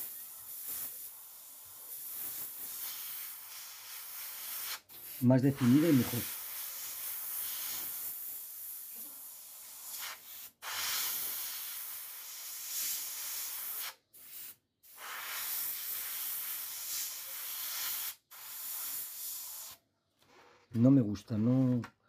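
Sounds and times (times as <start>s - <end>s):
airbrush hissing: 0.0s - 19.8s.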